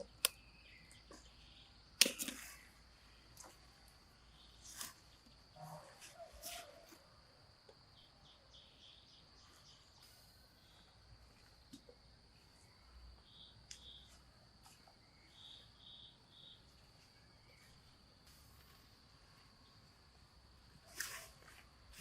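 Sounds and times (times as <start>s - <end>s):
cricket chirps: 0.0s - 22.0s
crickets droning: 0.0s - 22.0s.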